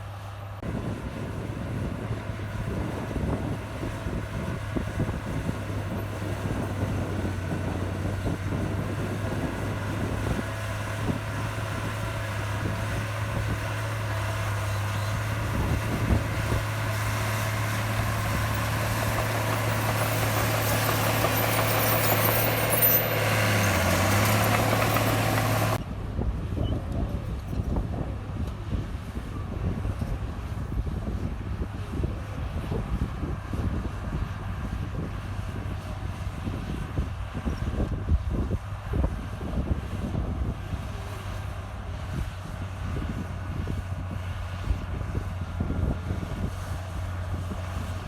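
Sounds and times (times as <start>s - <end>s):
diesel machinery engine drone: 0.0s - 48.0s.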